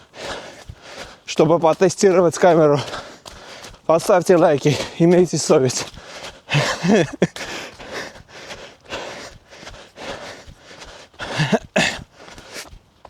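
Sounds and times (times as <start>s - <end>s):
man panting heavily: 0.0s - 12.8s.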